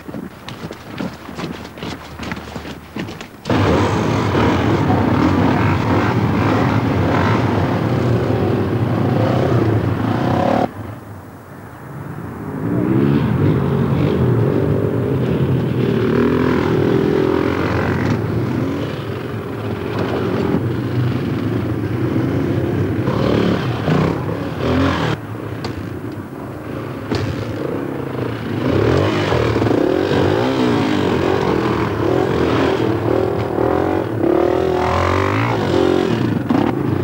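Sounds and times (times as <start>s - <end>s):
off-road motorcycles revving: 0.0s - 10.7s, 12.5s - 37.0s.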